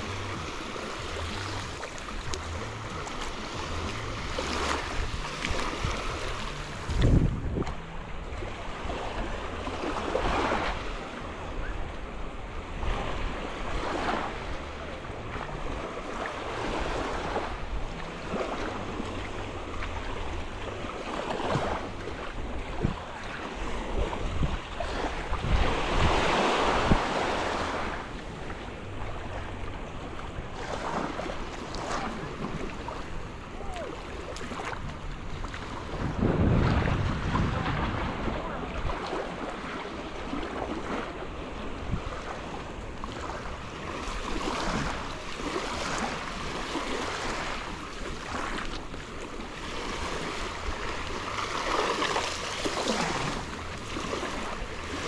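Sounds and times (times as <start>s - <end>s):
small waves breaking on sand: 0.0s - 55.0s
wind rumbling on microphone: 0.0s - 55.0s.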